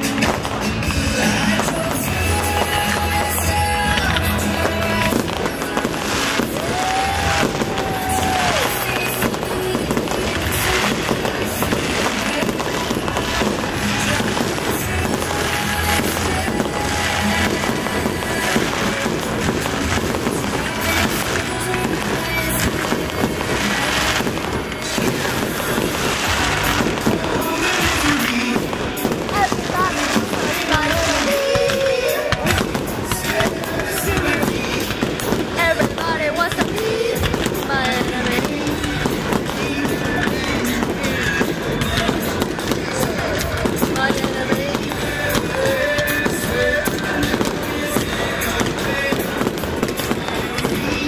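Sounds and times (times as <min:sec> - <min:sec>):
fireworks bursting and crackling: 0:00.0 - 0:51.0
music playing: 0:00.0 - 0:51.0.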